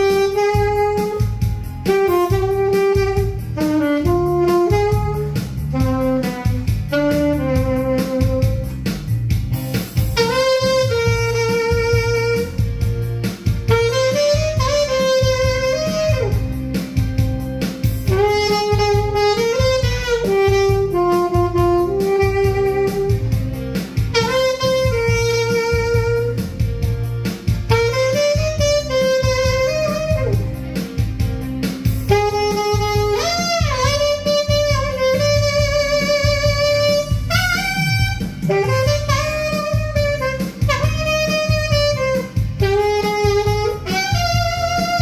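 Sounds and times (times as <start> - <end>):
backing track with bass and beat: 0.0 - 45.0
saxophone melody: 0.0 - 45.0.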